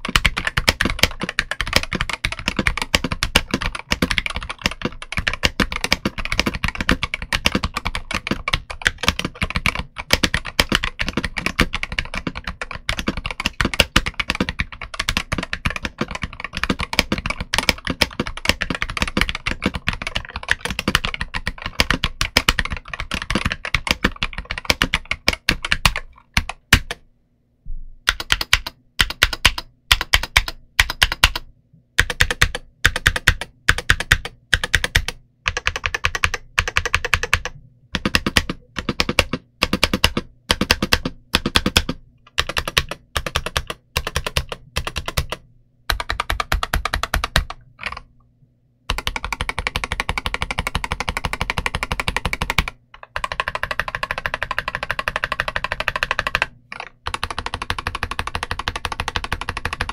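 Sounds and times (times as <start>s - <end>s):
keyboard typing: 0.0s - 27.0s, 28.1s - 48.1s, 48.9s - 59.9s.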